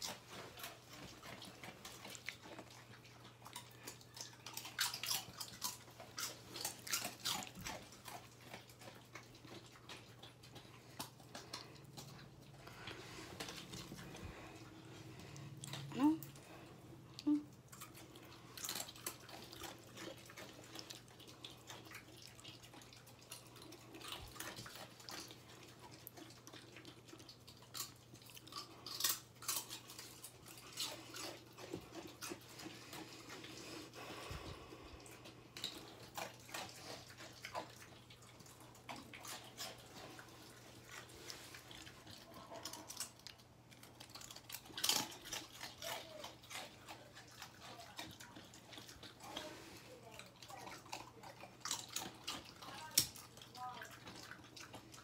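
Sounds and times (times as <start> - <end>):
dog crunching chips: 0.0 - 16.7, 17.5 - 34.1, 35.0 - 55.0.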